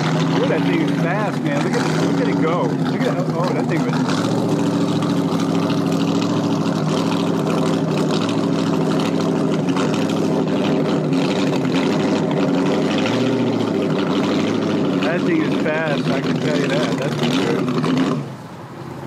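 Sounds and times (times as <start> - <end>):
speedboat engine running: 0.0 - 19.0.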